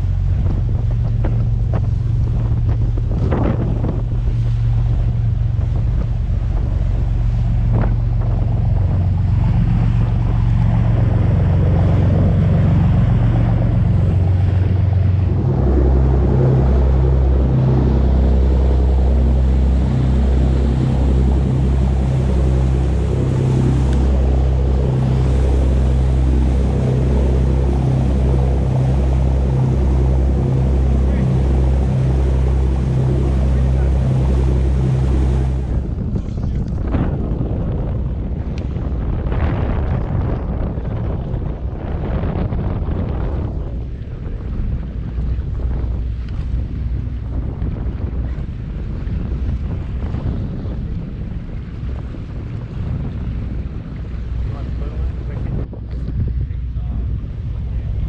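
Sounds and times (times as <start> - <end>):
boat engine running: 0.0 - 58.0
wind noise on microphone: 0.0 - 58.0.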